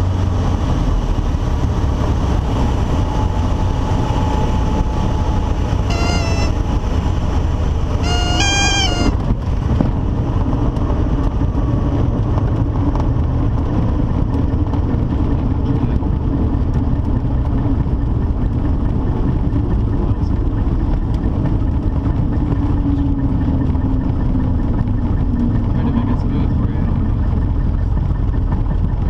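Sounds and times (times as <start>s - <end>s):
propeller aircraft engine idling: 0.0s - 29.0s.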